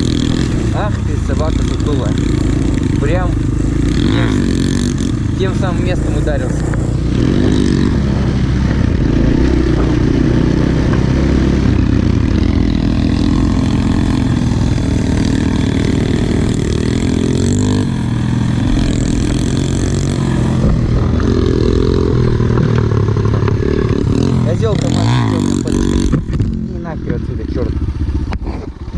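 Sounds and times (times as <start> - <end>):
small motorbike engine revving: 0.0 - 28.9.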